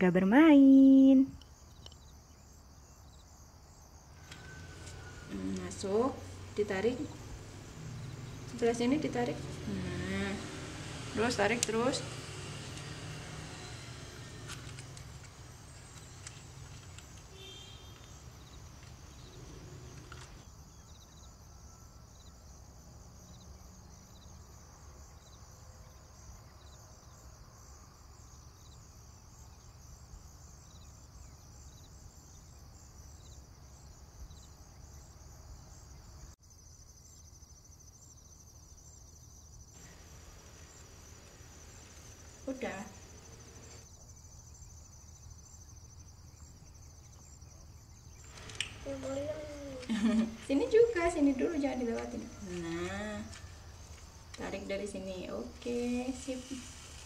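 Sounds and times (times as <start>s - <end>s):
insect chirping trill: 0.0s - 57.0s.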